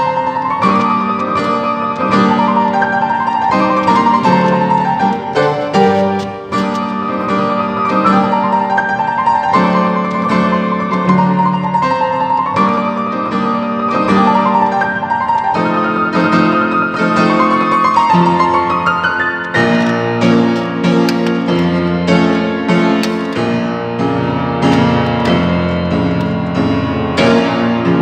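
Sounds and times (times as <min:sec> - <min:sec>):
solo piano piece: 0:00.0 - 0:28.0.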